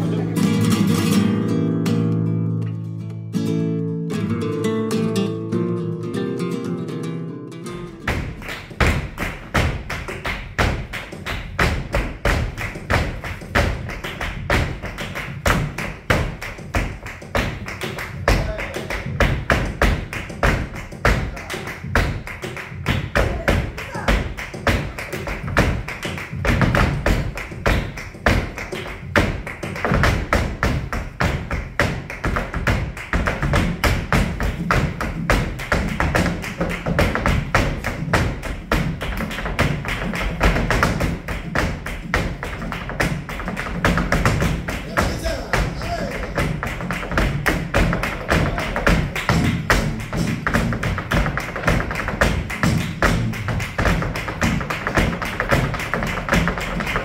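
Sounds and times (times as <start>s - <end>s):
flamenco guitar: 0.0s - 57.0s
shoes stamping on stage: 7.9s - 57.0s
hand clapping: 8.0s - 57.0s.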